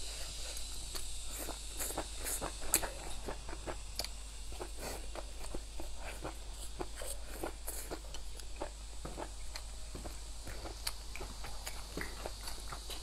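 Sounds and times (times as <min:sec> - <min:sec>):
person chewing and lip-smacking: 0:00.3 - 0:13.0.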